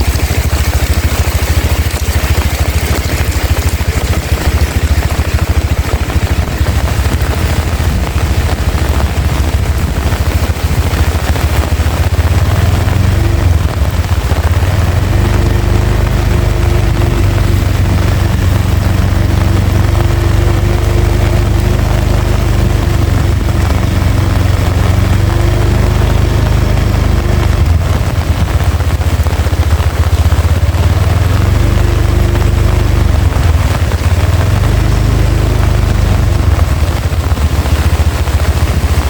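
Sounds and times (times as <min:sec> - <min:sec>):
heavy rain pouring: 0:00.0 - 0:39.0
wind rumbling on microphone: 0:00.0 - 0:39.0.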